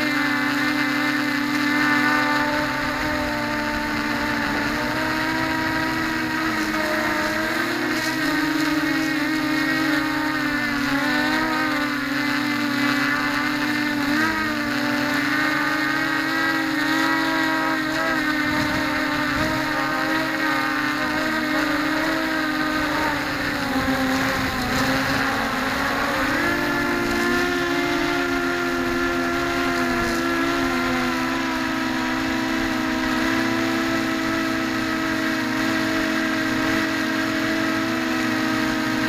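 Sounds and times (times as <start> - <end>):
quadcopter propellers whining: 0.0 - 39.0.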